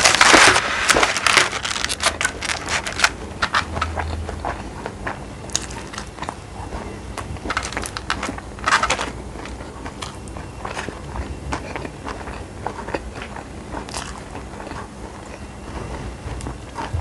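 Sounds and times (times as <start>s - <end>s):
chewing crisp food: 0.0s - 17.0s.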